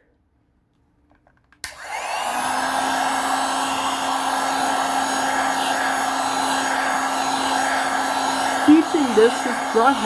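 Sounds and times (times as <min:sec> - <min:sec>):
hot-air blower rushing: 0:01.6 - 0:10.0
motor hum: 0:01.8 - 0:10.0.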